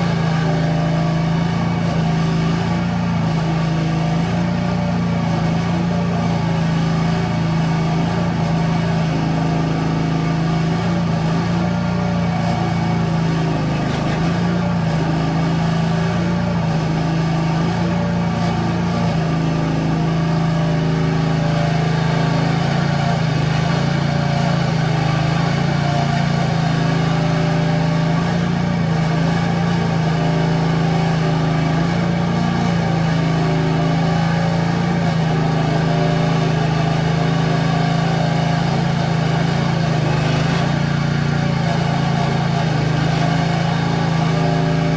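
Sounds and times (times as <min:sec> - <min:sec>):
mini excavator engine running: 0:00.0 - 0:44.9.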